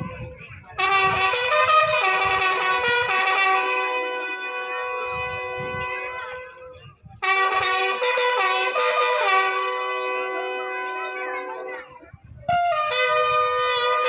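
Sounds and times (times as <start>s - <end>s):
wind instrument melody: 0.0s - 14.0s.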